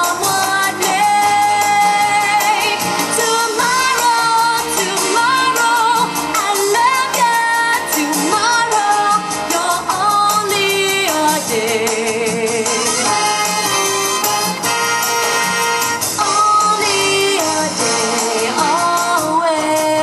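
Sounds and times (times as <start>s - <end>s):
backing track with steady beat: 0.0s - 20.0s.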